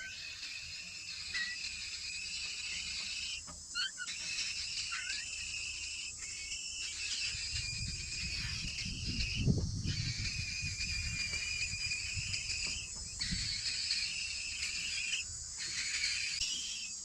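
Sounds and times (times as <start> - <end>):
insects buzzing high pitched: 0.0 - 17.0.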